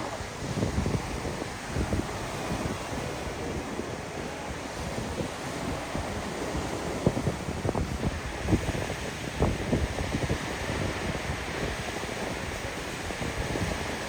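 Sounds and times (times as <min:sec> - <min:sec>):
waves breaking on sand beach: 0:00.0 - 0:14.0
wind buffeting microphone: 0:00.0 - 0:14.0.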